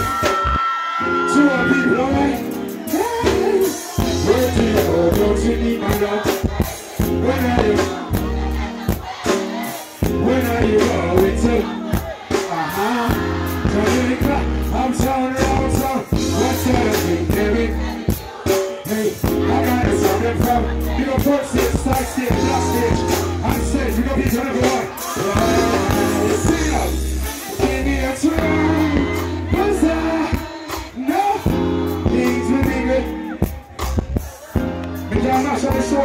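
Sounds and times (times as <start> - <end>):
live reggae band: 0.0 - 36.0
man singing: 1.0 - 36.0.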